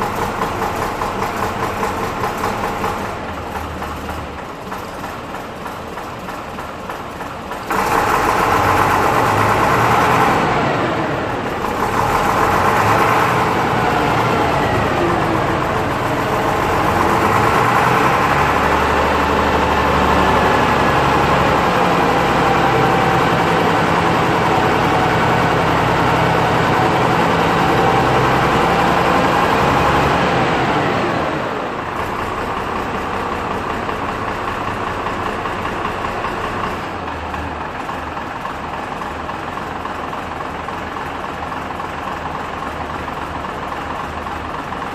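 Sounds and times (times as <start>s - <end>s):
diesel bus engine idling and revving: 0.0s - 44.9s.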